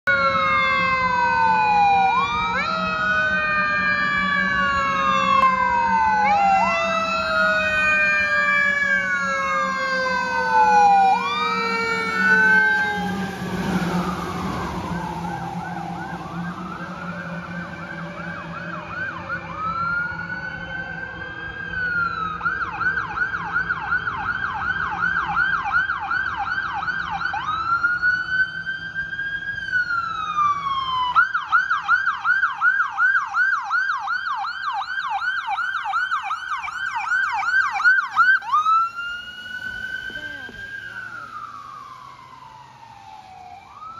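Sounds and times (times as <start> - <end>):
ambulance siren wailing and yelping: 0.0 - 43.9
fire truck siren wailing: 0.0 - 43.9
truck engine and wet tyre noise: 0.1 - 43.9.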